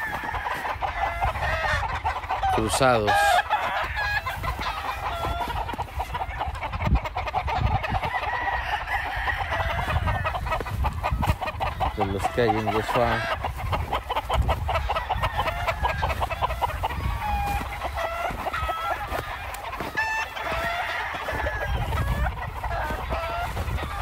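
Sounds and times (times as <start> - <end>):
roosters crowing and clucking: 0.0 - 24.0.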